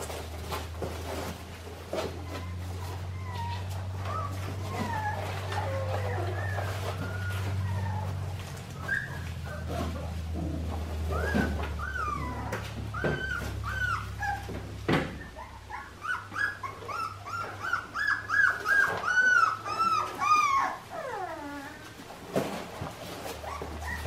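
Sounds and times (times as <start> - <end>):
puppies whining: 0.0 - 24.0.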